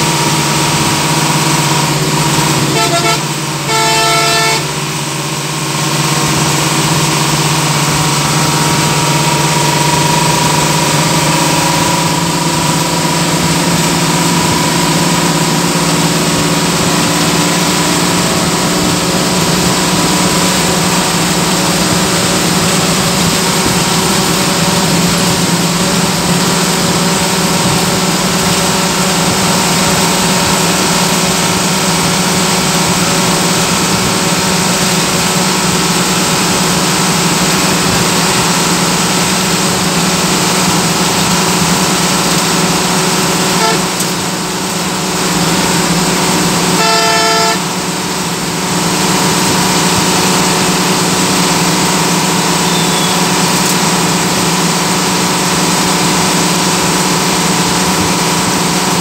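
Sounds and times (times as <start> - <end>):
road and wind hiss: 0.0 - 46.8, 47.5 - 59.0
bus engine drone: 0.0 - 59.0.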